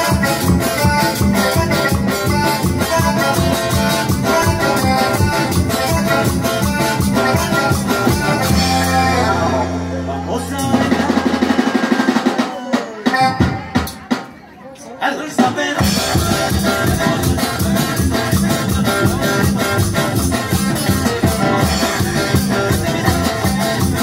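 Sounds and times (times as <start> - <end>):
live band playing latin dance music: 0.0 - 24.0.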